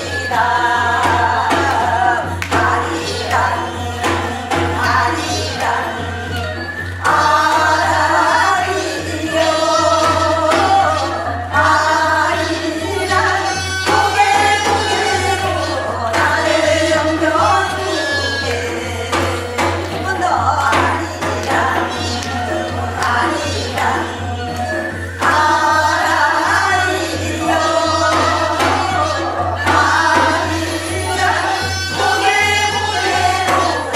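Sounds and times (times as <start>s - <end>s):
folk singers singing: 0.0s - 33.9s
percussion strokes: 0.0s - 33.9s.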